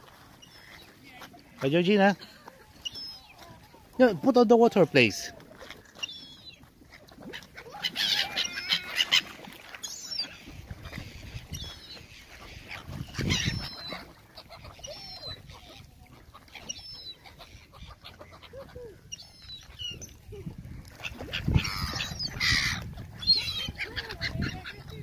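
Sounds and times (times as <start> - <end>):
gulls calling: 0.3 - 25.0.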